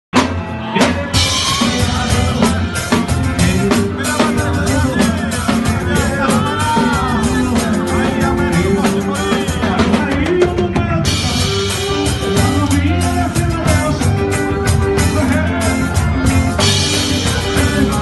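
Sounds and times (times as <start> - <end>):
drum kit beat with cymbals: 0.1 - 18.0
live band music: 0.1 - 18.0
person singing: 0.2 - 18.0.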